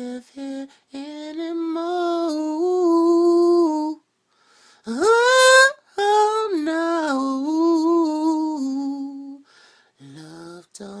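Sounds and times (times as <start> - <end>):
man singing unaccompanied: 0.0 - 4.1, 4.8 - 11.0.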